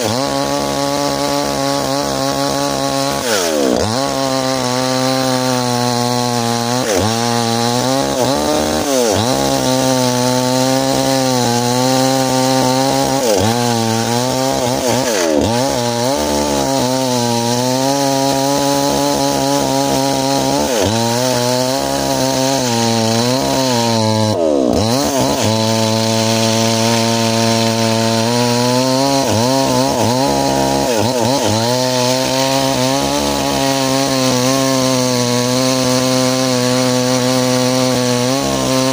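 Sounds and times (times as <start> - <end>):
chainsaw cutting hard wood: 0.0 - 38.9.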